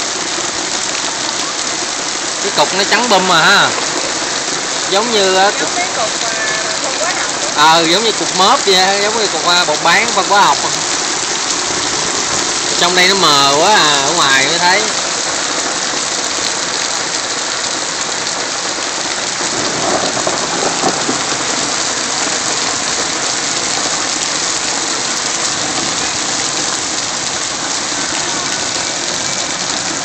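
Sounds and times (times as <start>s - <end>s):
heavy rain and hail pelting: 0.0s - 30.0s.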